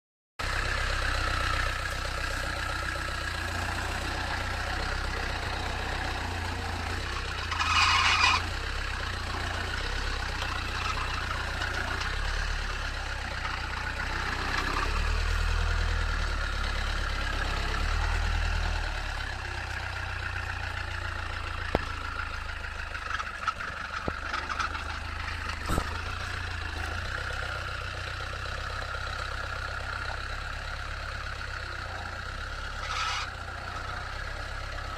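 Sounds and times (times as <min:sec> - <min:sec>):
vehicle engine running: 0:00.4 - 0:34.9.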